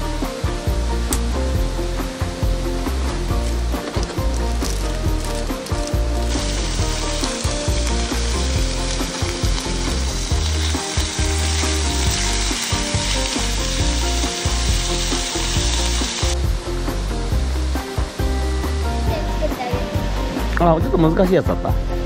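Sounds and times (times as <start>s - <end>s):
food sizzling in a pan: 0.0s - 20.4s
background music: 0.0s - 22.0s.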